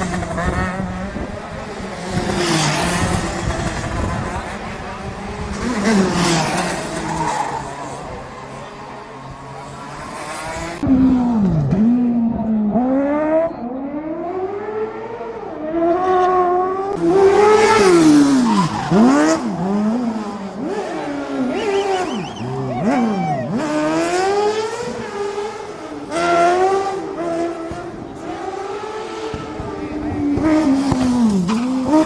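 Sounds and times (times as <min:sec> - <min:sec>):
racing engines revving: 0:00.0 - 0:32.0.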